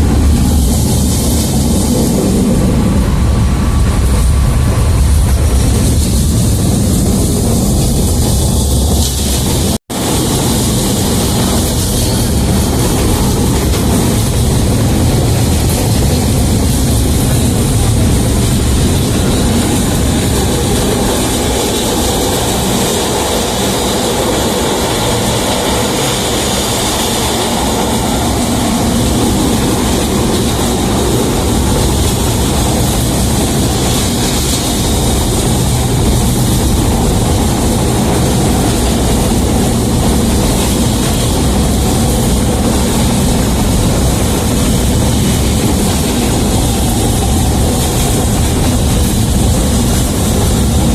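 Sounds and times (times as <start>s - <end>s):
tram wheels on rails: 0.0s - 50.9s.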